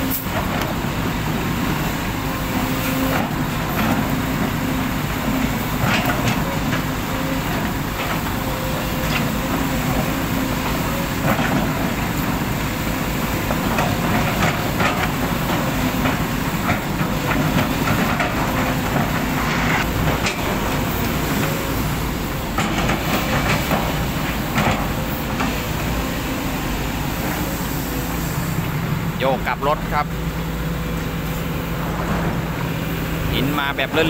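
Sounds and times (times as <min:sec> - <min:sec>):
excavator diesel engines running: 0:00.0 - 0:34.0.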